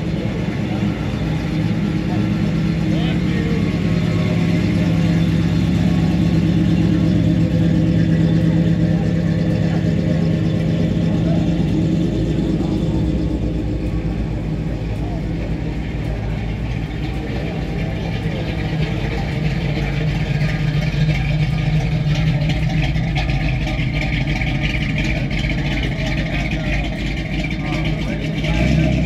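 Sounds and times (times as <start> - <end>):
car engine running: 0.0 - 29.0
people talking: 0.0 - 29.0.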